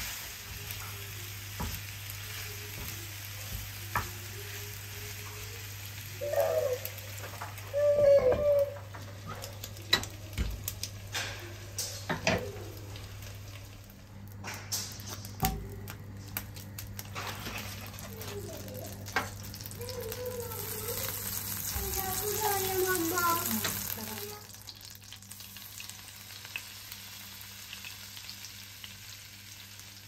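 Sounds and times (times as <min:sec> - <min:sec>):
butter sizzling: 0:00.0 - 0:30.0.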